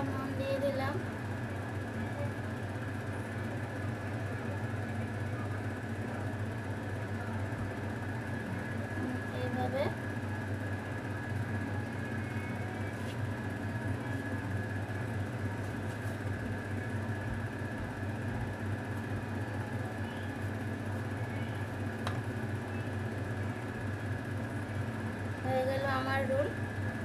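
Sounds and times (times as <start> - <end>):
mechanical hum with whine: 0.0 - 27.0.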